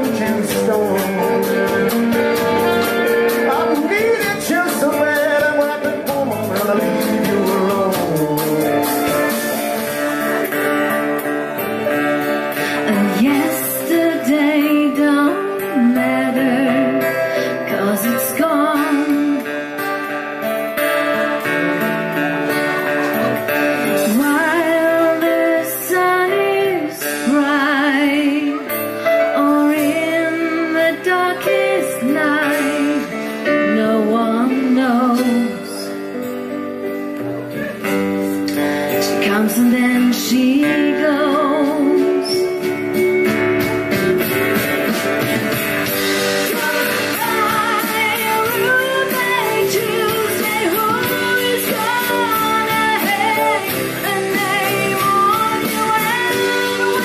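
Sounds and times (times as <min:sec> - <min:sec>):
bending lead guitar melody: 0:00.0 - 0:57.0
rock band playing: 0:00.0 - 0:57.0.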